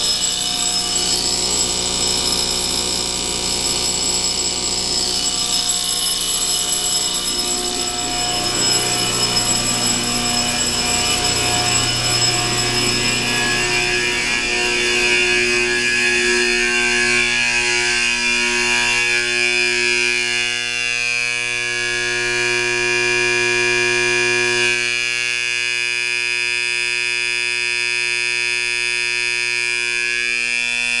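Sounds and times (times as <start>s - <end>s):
fire alarm harsh buzzing: 0.0s - 31.0s.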